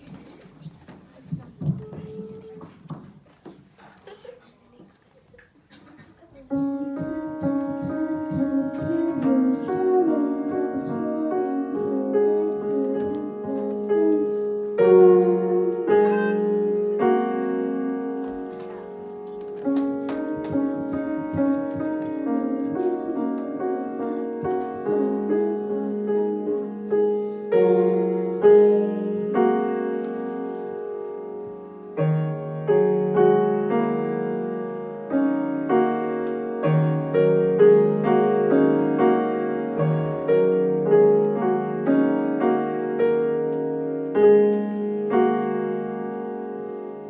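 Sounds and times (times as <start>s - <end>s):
grand piano melody: 6.4s - 47.0s.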